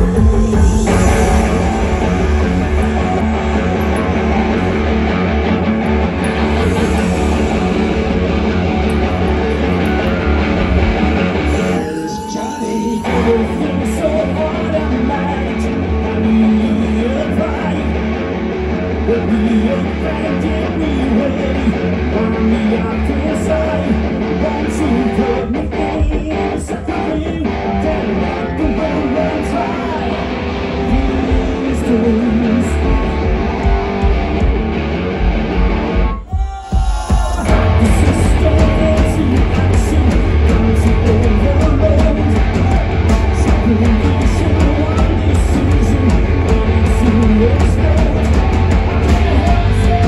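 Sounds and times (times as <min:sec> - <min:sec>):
bass and drums: 0:00.0 - 0:50.0
electric guitars: 0:00.0 - 0:50.0
live hard rock band playing: 0:00.0 - 0:50.0.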